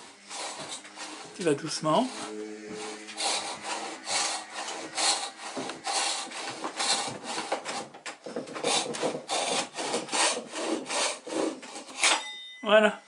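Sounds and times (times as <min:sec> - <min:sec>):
pull saw rasping through wood: 0:00.0 - 0:12.1.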